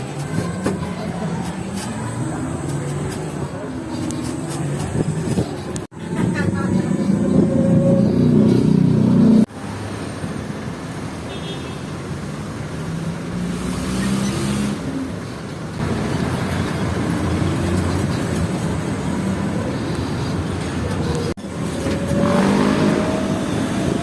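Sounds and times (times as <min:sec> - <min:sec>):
street traffic rumble and hiss: 0:00.0 - 0:24.0.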